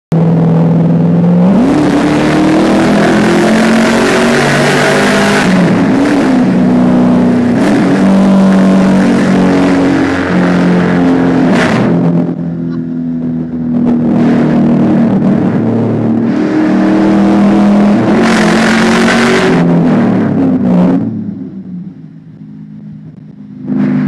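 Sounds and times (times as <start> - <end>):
car engine accelerating: 0.1 - 24.0
road and wind noise: 0.1 - 24.0.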